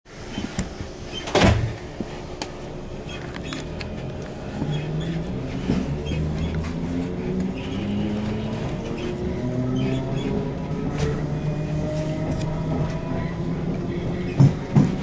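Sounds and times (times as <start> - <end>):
train carriage rattles and clicks: 0.2 - 15.0.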